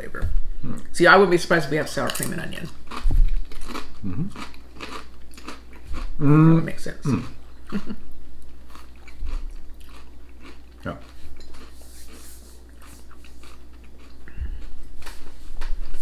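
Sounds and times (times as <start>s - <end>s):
crisps being chewed: 1.9s - 6.2s, 7.1s - 16.0s.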